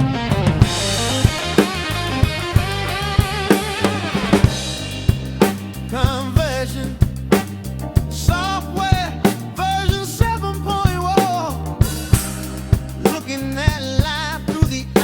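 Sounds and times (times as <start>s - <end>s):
rock song: 0.0s - 15.0s
steady bass line: 0.0s - 15.0s.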